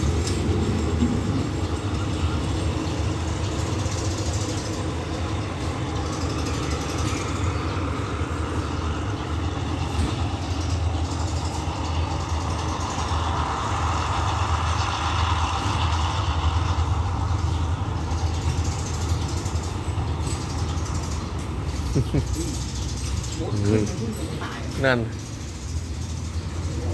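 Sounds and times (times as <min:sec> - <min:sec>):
broad rushing noise: 0:00.0 - 0:26.9
diesel engine humming: 0:00.0 - 0:26.9.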